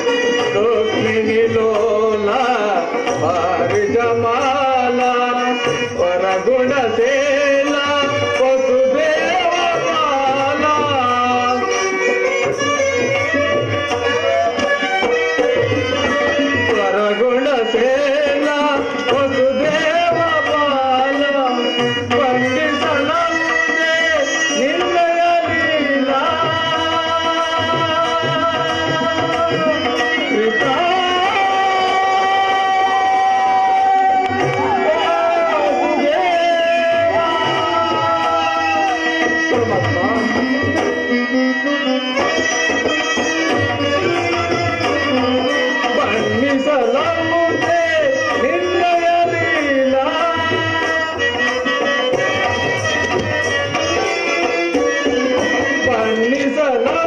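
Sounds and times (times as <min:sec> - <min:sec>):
man singing: 0:00.0 - 0:57.0
tabla drumming: 0:00.0 - 0:57.0.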